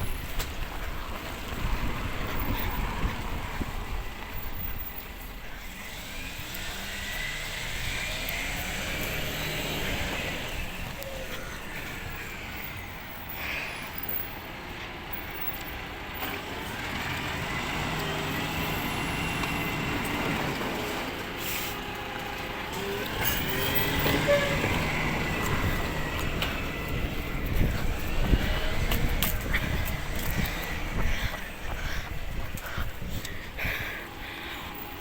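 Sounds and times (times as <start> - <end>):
garbage truck running: 0.0 - 32.4.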